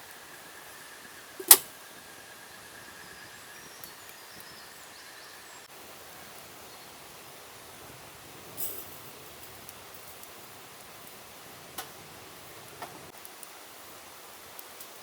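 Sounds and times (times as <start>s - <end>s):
forest ambience hiss: 0.0s - 15.0s.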